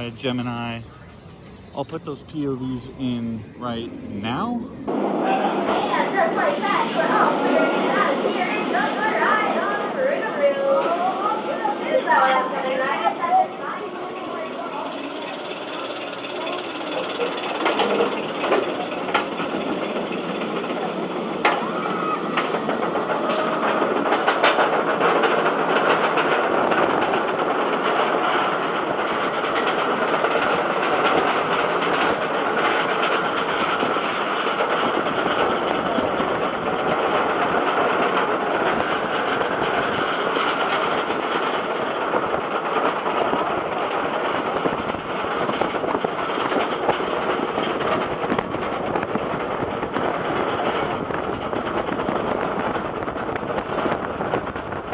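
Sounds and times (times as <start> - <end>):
roller coaster train rushing and rattling: 0.0 - 54.9.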